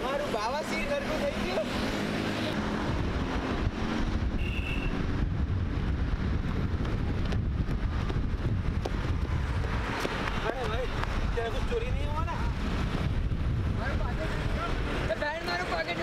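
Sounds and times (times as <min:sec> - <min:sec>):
passing road traffic: 0:00.0 - 0:16.0
wind buffeting microphone: 0:02.5 - 0:16.0.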